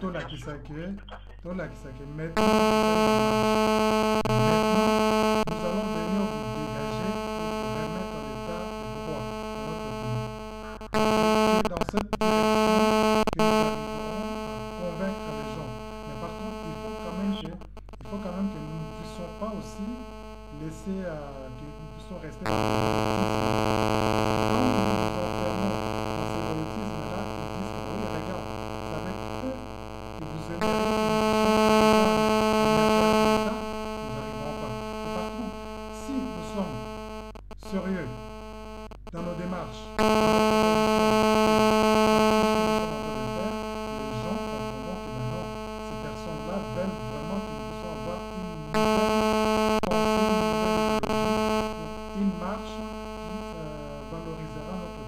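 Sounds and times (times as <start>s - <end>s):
electrical buzz: 1.7s - 55.0s.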